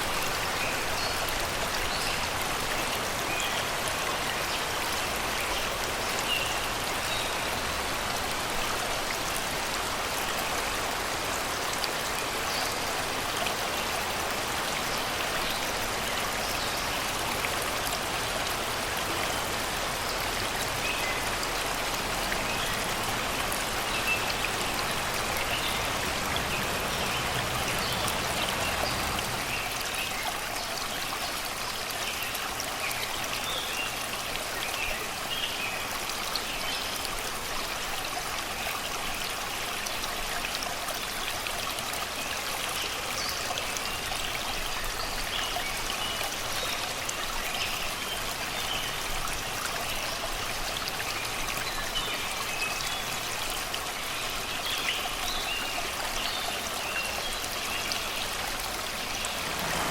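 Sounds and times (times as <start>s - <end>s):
river babbling over rocks: 0.0s - 59.9s.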